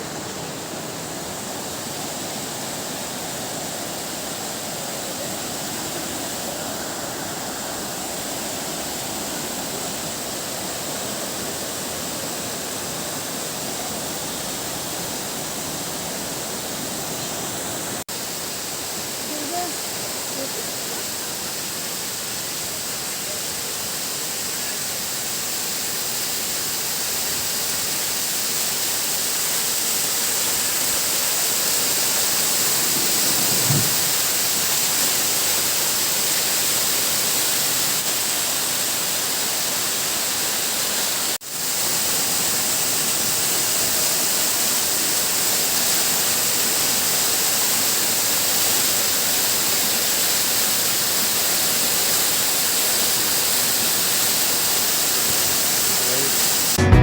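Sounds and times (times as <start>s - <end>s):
steady hissing noise: 0.0s - 57.0s.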